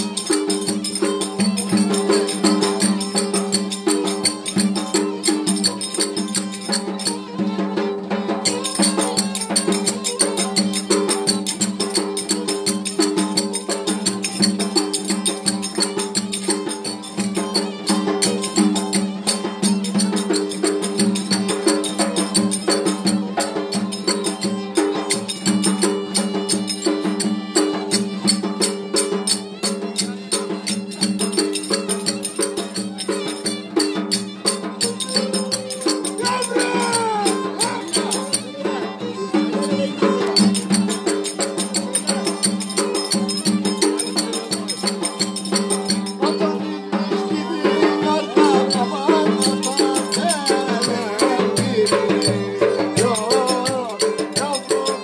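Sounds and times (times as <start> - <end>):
clicking hand percussion: 0.0 - 55.0
violin playing dance tune: 0.0 - 55.0.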